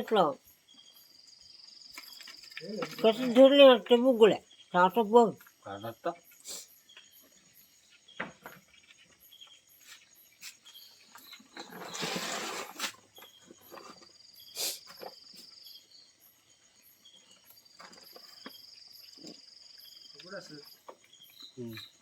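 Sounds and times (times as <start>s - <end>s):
cricket-like trill: 0.0s - 22.0s
faint insect chirps: 0.0s - 22.0s.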